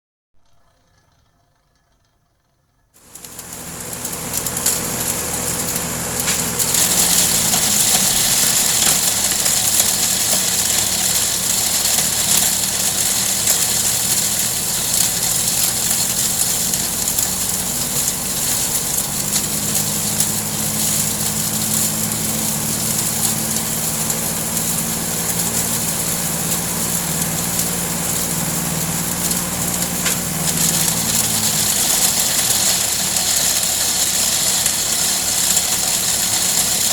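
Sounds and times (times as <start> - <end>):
small engine running: 0.4 - 36.9
grinder hissing: 3.0 - 36.9.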